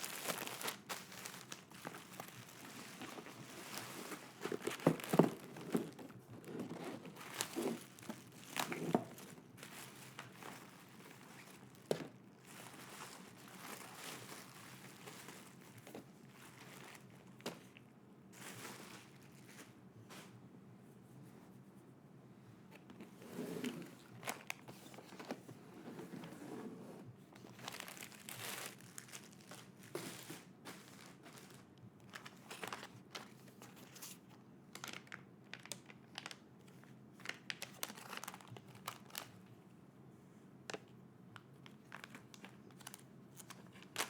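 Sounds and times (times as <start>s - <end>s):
packaging crinkling and rustling: 0.0s - 20.4s, 22.7s - 39.6s, 40.6s - 44.0s.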